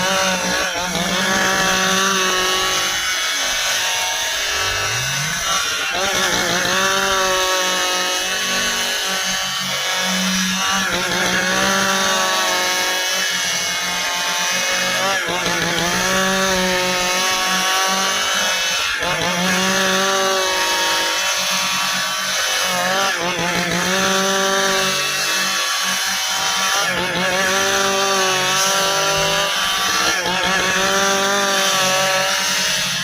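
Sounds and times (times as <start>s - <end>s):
chainsaw cutting hardwood: 0.0s - 33.0s.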